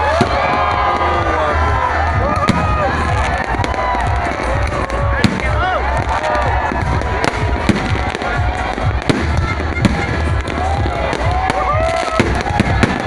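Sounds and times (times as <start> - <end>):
fireworks bangs and crackles: 0.0 - 13.0
whistling fireworks: 2.3 - 13.0.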